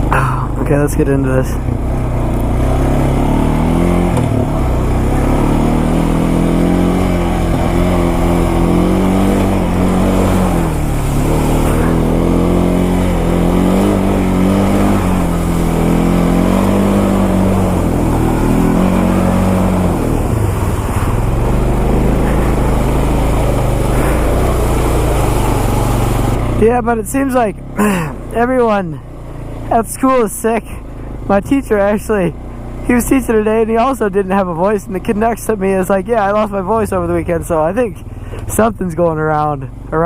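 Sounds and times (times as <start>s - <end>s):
atv engine revving: 0.0s - 40.0s.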